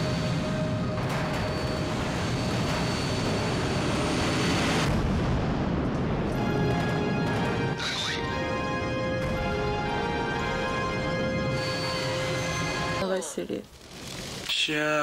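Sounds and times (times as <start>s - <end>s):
film music with held tones: 0.0s - 15.0s.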